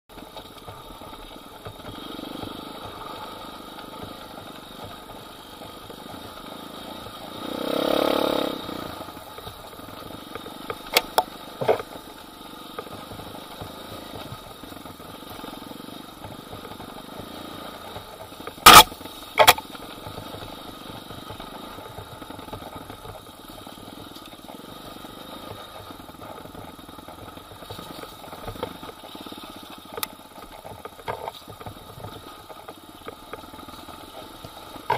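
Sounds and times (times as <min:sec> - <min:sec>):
motorbike engine running: 0:00.1 - 0:34.9.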